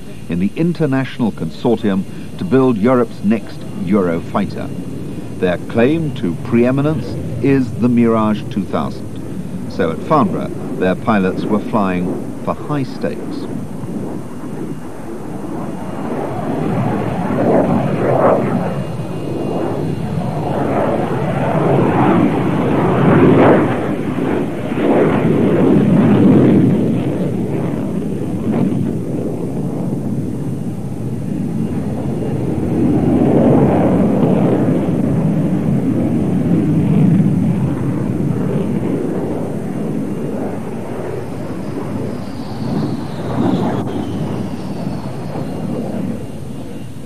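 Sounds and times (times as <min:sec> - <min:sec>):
jet fighter roar: 0:00.0 - 0:47.0.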